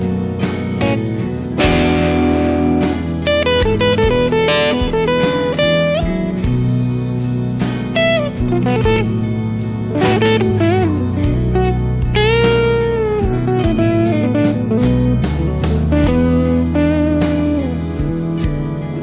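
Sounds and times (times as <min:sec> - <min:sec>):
electric guitar blues lead: 0:00.0 - 0:19.0
low bass notes: 0:00.0 - 0:19.0.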